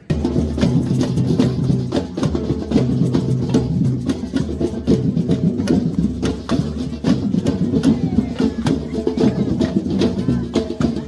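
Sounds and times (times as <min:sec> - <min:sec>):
wood-block and drum beat: 0:00.1 - 0:11.0.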